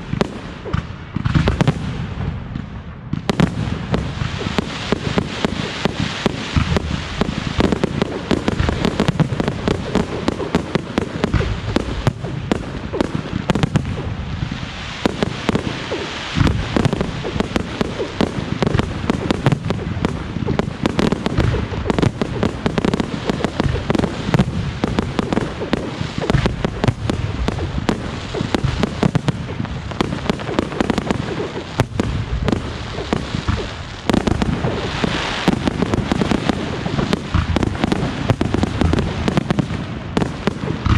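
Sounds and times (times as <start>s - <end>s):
fireworks bursts and crackles: 0.0s - 40.9s.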